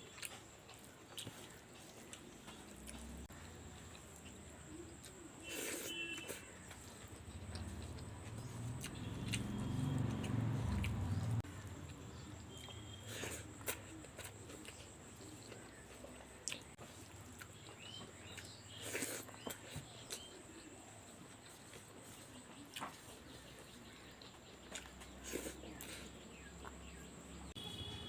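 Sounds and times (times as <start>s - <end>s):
person chewing with wet smacks: 0.0s - 27.1s.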